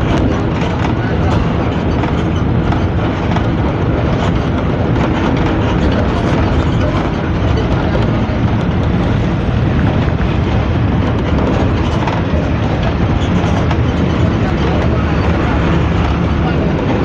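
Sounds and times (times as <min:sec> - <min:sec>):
bus diesel engine rumble: 0:00.0 - 0:17.0
road and body noise: 0:00.0 - 0:17.0.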